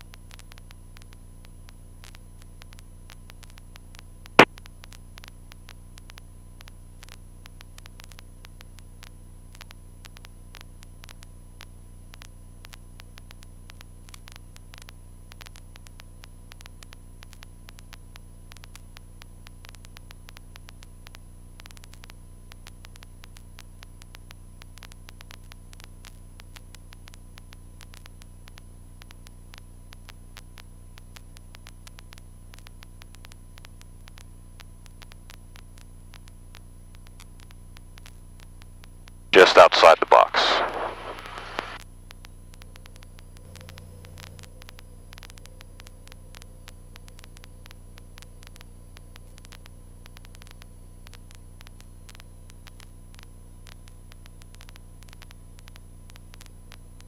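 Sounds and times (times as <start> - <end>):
electrical hum and static: 0.0 - 57.0
light crackle of tiny clicks: 0.0 - 57.0.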